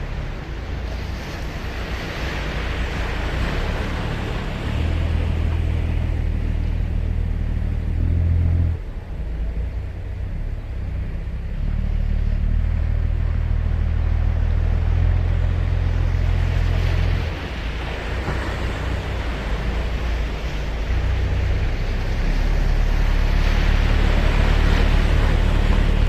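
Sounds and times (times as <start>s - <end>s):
heavy low rumble: 0.0s - 26.0s
surf washing on sand: 0.0s - 26.0s.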